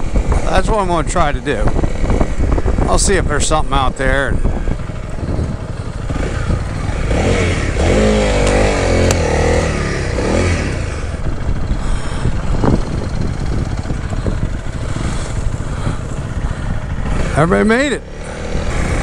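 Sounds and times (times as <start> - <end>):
motorcycle engine revving: 0.0 - 19.0
steady rushing noise: 0.0 - 19.0.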